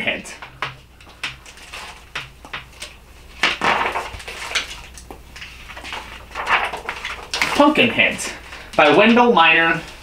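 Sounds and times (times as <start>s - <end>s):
pages rustling: 0.6s - 9.2s.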